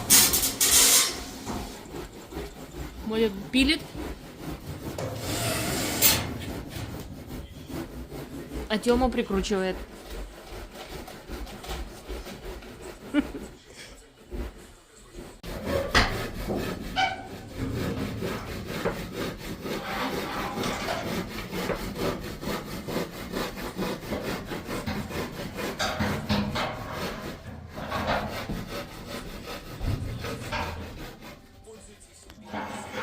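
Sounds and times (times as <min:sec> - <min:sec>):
saw cutting: 0:00.0 - 0:33.0.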